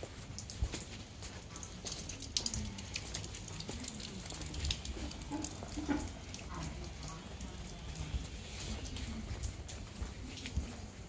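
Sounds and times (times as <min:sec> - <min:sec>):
raindrops ticking on umbrella: 0:00.0 - 0:11.0
rain hiss: 0:00.1 - 0:11.0.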